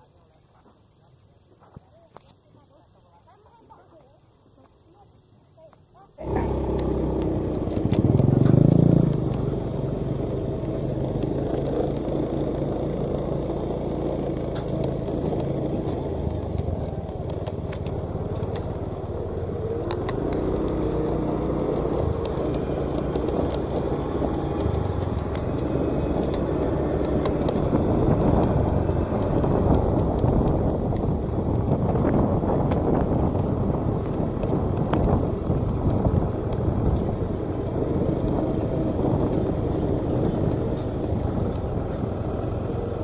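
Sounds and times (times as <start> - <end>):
truck engine running: 6.2 - 43.0.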